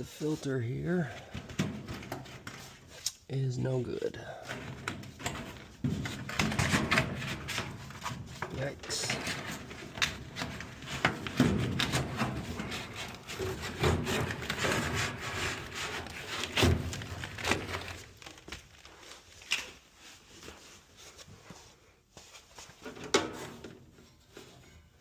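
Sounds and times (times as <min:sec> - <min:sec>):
hands rubbing and knocking parts: 0:01.2 - 0:03.3, 0:04.4 - 0:24.6.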